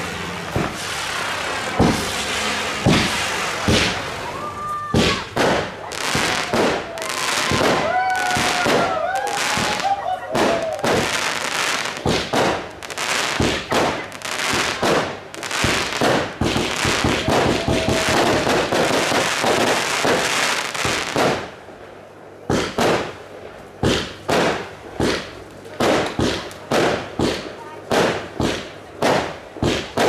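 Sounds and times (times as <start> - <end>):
firework bangs: 0.0 - 21.8, 22.4 - 30.0
fireworks bursting and crackling: 0.0 - 30.0.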